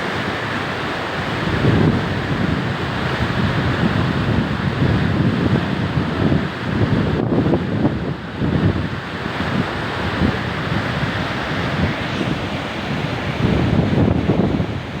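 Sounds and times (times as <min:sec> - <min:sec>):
floodwater rushing: 0:00.0 - 0:15.0
wind buffeting microphone: 0:01.2 - 0:15.0.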